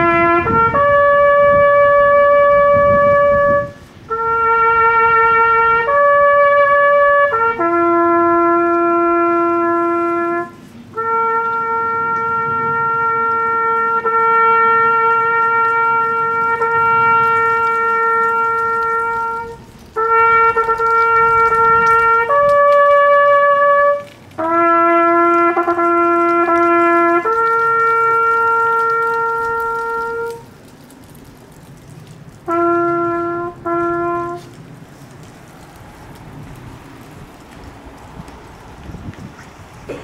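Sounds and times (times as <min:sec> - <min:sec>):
solo trumpet bugle call: 0:00.0 - 0:30.5, 0:32.4 - 0:34.6.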